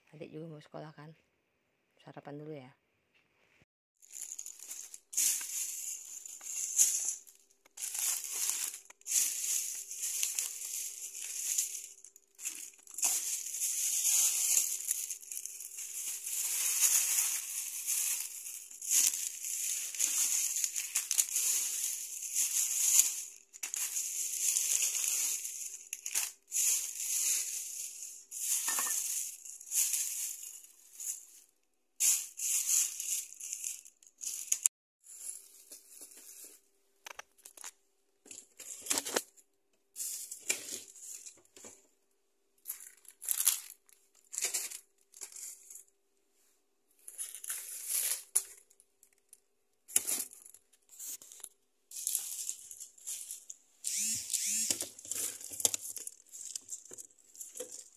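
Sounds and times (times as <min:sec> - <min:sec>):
plastic bags rustling: 0:04.0 - 0:36.7, 0:40.0 - 0:41.8, 0:42.6 - 0:45.9, 0:47.0 - 0:49.3, 0:49.9 - 0:57.9.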